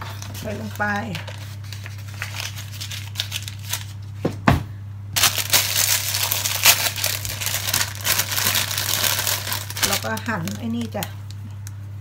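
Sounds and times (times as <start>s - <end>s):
plastic packet crinkling: 0.0s - 4.0s, 5.2s - 11.7s.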